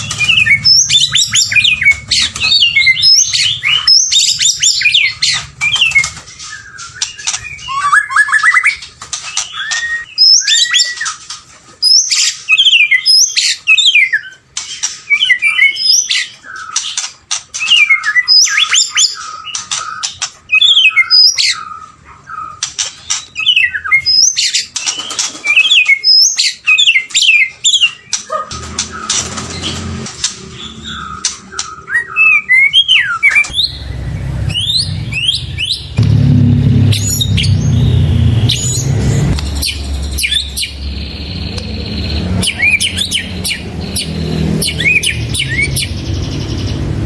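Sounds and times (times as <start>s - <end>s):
bird singing whistles: 0.0s - 8.8s, 9.4s - 11.2s, 11.8s - 14.4s, 15.1s - 16.8s, 17.6s - 21.7s, 23.3s - 29.2s, 30.6s - 36.0s, 36.9s - 46.0s.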